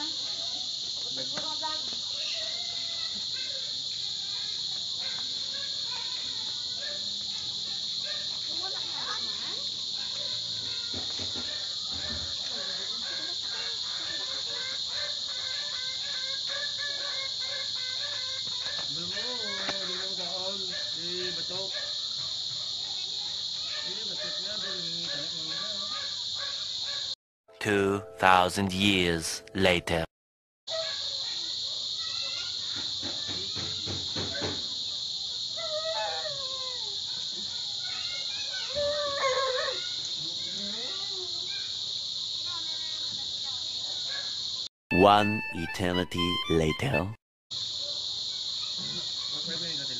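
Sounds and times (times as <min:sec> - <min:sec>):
high-pitched insect chorus: 0:00.0 - 0:27.1, 0:30.7 - 0:44.7, 0:47.6 - 0:49.9.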